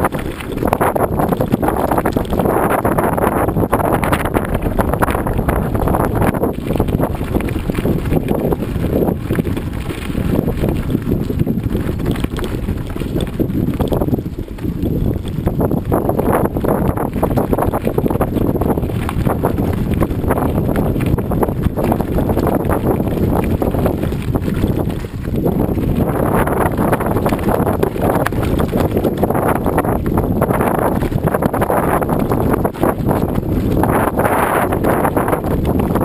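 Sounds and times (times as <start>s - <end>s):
bicycle rattling: 0.0s - 36.0s
tyres crunching on gravel: 0.0s - 36.0s
wind buffeting microphone: 0.0s - 36.0s.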